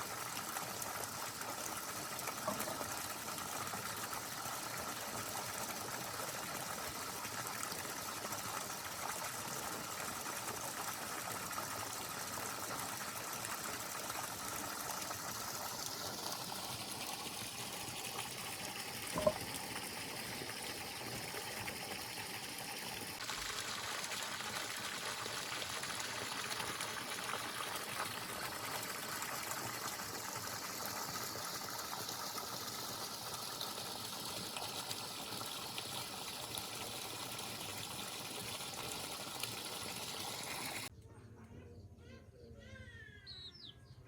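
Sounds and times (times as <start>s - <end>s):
water running: 0.0s - 40.9s.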